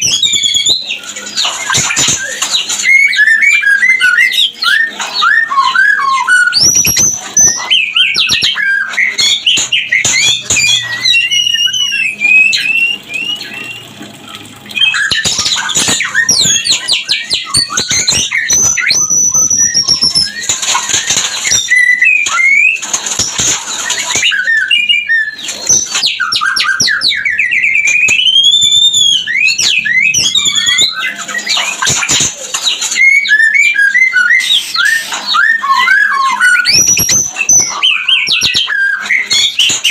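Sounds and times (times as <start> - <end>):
bird singing whistled notes: 0.0 - 13.9, 15.9 - 22.8, 23.8 - 31.8, 33.0 - 39.9.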